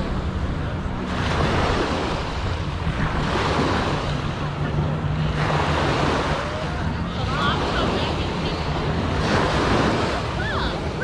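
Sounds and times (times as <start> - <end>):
ocean surf washing in: 0.0 - 11.0
wind on microphone: 0.0 - 11.0.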